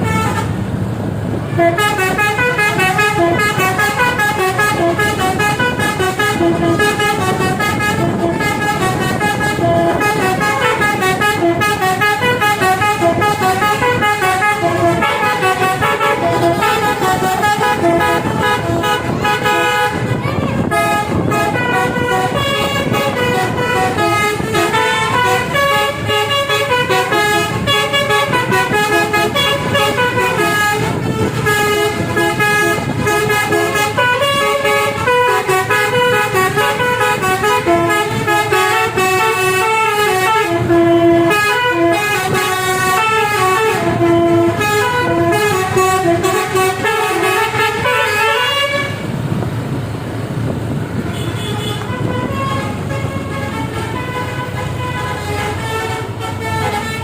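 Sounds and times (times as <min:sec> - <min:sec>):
musical air horn melody: 0:00.0 - 0:00.6, 0:01.5 - 0:49.2, 0:51.1 - 0:57.0
engine and road noise: 0:00.0 - 0:57.0.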